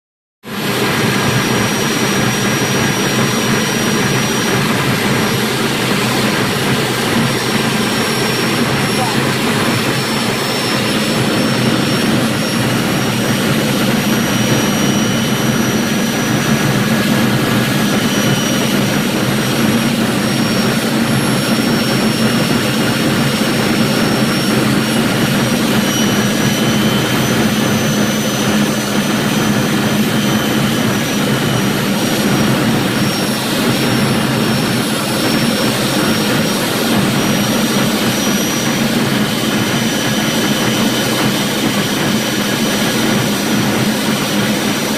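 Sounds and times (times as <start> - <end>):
high whine: 0.5 - 44.9
jet engine running: 0.5 - 44.9
rushing airflow: 0.5 - 44.9.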